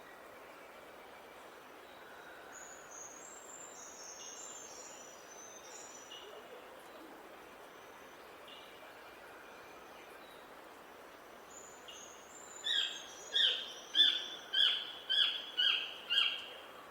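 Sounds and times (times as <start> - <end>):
steady outdoor hiss: 0.0 - 16.9.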